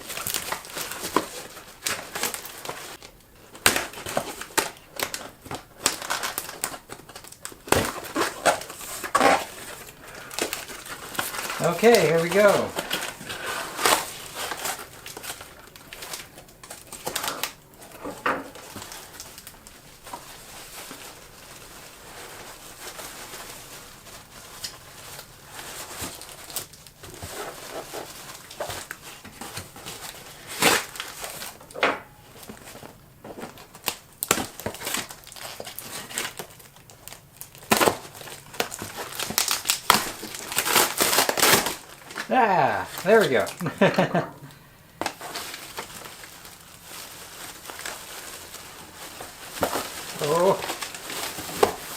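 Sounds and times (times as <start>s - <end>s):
plastic wrapping crinkling: 0.0s - 51.9s.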